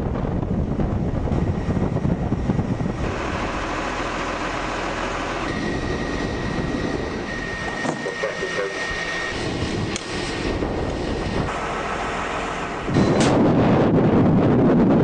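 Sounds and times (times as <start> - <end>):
vehicle engine rumbling: 0.0 - 15.0
thin steady whine: 1.2 - 13.9.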